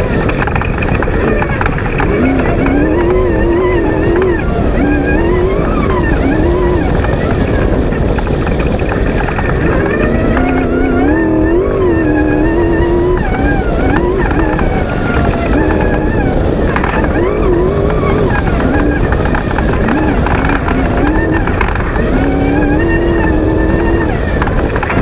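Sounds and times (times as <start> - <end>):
low rumble from sand track: 0.0 - 25.0
race buggy engine revving: 0.0 - 25.0.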